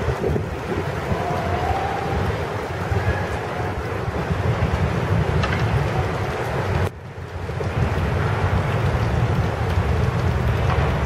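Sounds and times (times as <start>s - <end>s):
freight train low rumble: 0.0s - 11.0s
wind buffeting microphone: 0.0s - 11.0s.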